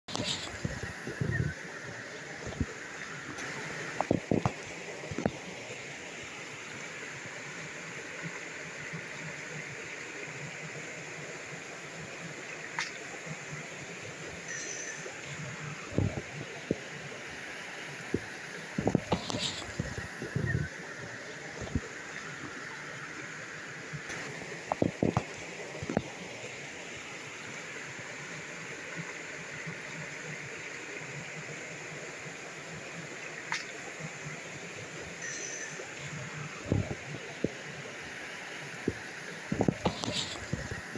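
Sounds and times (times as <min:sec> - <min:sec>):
stream rushing over rocks: 0:00.1 - 0:40.9.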